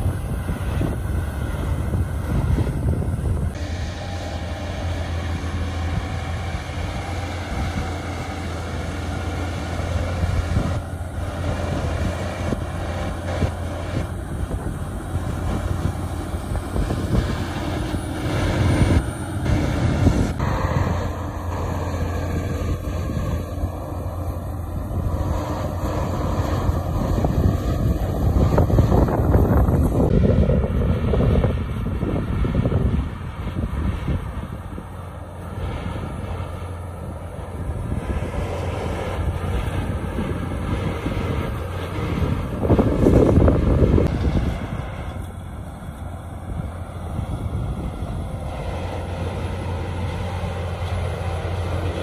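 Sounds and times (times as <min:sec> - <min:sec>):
bulldozer diesel engine droning: 0:00.0 - 0:52.0.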